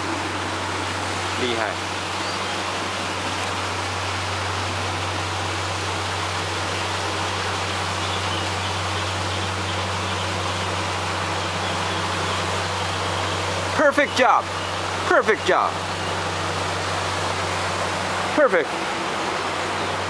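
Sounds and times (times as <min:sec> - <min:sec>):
boat engines humming: 0:00.0 - 0:20.0
water rushing through lock gate: 0:00.0 - 0:20.0.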